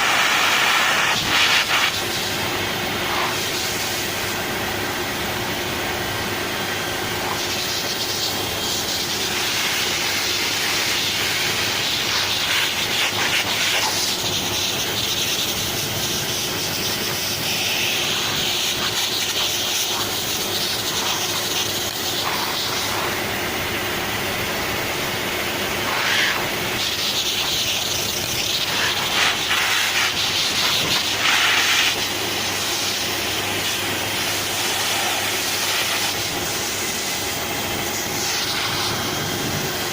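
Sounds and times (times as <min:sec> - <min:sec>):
faint motor hum: 0:00.0 - 0:39.9
hair dryer blowing air: 0:00.0 - 0:39.9.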